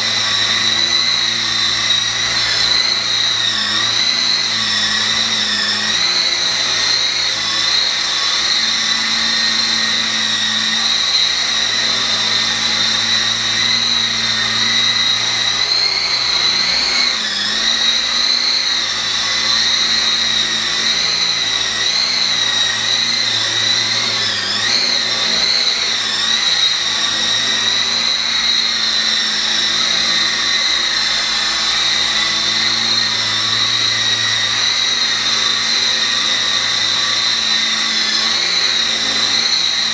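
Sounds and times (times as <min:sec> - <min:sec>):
toy helicopter rotors whining: 0:00.0 - 0:39.9.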